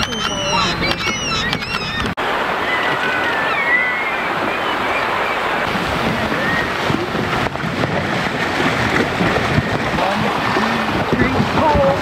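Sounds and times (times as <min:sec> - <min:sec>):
water rushing: 0:00.0 - 0:12.0
wind over microphone: 0:00.0 - 0:12.0.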